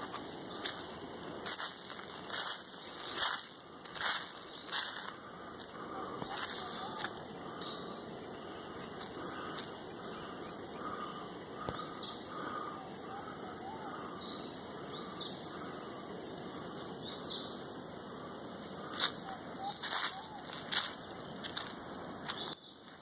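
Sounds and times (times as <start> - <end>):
birds calling: 0.0 - 23.0
high-pitched insect drone: 0.0 - 23.0.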